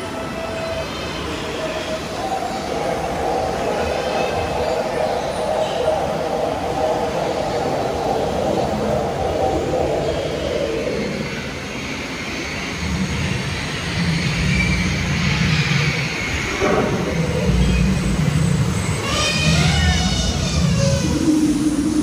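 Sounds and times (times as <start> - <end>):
ride boat rumbling through tunnel: 0.0 - 22.0.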